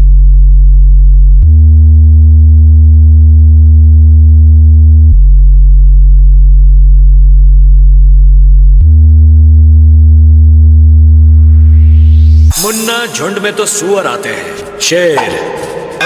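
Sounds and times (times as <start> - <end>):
synthesized bass test tone: 0.0 - 13.7.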